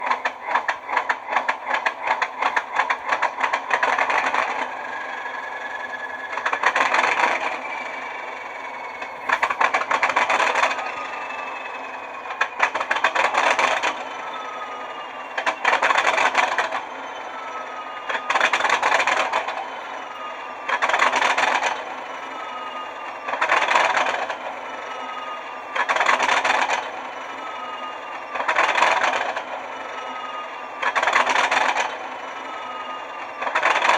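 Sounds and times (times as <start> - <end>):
fast clatter: 0.0 - 24.5, 25.1 - 32.1, 33.3 - 33.9
falling whine: 0.0 - 33.8
diesel locomotive engine idling: 0.0 - 33.9.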